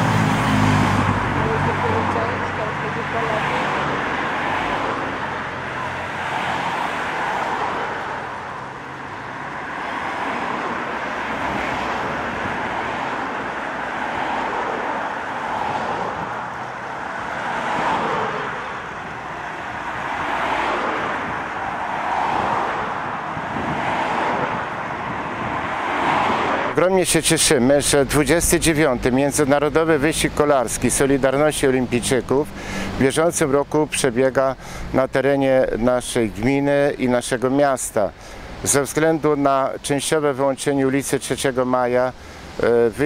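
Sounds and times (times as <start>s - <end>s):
cars passing by: 0.0s - 43.0s.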